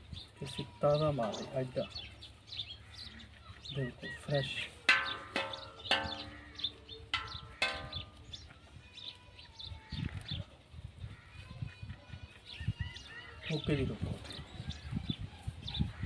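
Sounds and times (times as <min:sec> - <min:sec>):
birds chirping: 0:00.0 - 0:16.0
harsh bird calls: 0:00.0 - 0:16.0.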